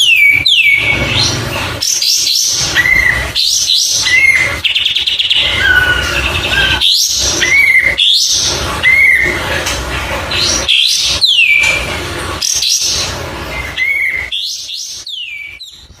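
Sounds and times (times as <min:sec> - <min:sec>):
bird chirps and whistles: 0:00.0 - 0:09.4, 0:10.7 - 0:11.8, 0:12.4 - 0:16.0.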